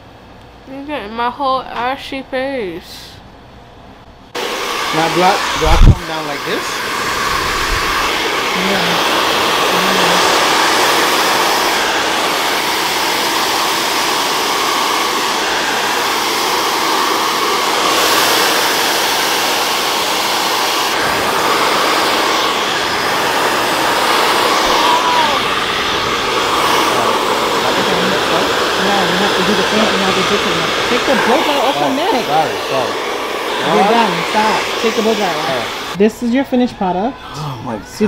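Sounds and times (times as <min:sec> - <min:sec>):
hair dryer blowing: 0:04.3 - 0:37.2.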